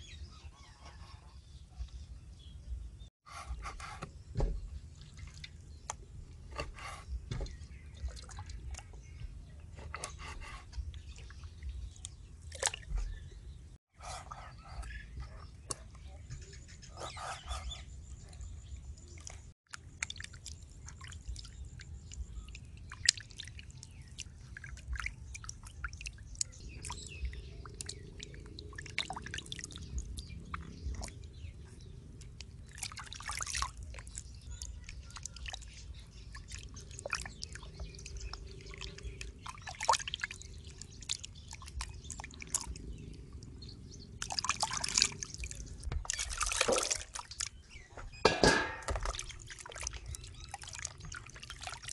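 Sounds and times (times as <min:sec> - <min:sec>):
water splashing and squelching: 0:03.2 - 0:51.9.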